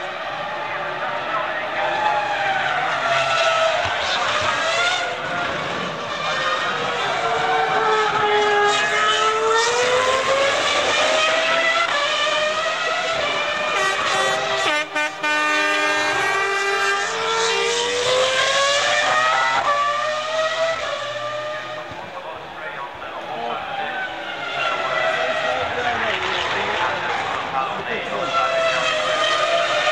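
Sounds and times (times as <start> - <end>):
racing car engine at high revs: 0.0 - 29.9.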